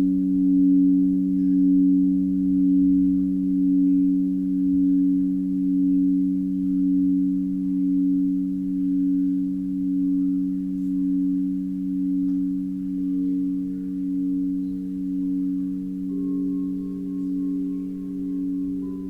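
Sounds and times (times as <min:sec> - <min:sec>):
higher singing bowl tone: 0:00.0 - 0:19.0
singing bowls droning: 0:00.0 - 0:19.0.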